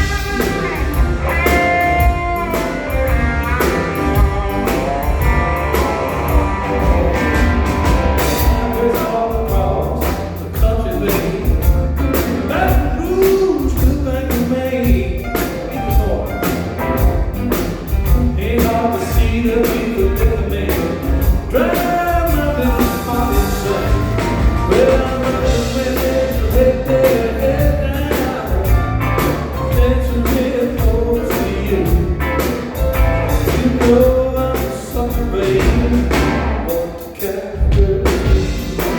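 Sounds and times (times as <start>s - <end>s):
person singing: 0.0s - 16.6s, 18.1s - 38.9s
rock and roll band playing: 0.0s - 38.9s.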